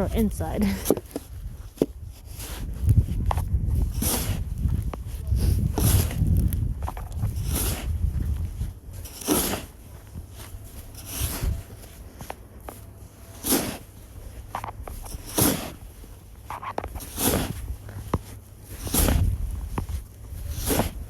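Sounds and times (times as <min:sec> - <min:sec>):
snow shovel scooping: 0:00.0 - 0:02.9, 0:03.7 - 0:21.0
shovel scraping snow: 0:00.0 - 0:21.0.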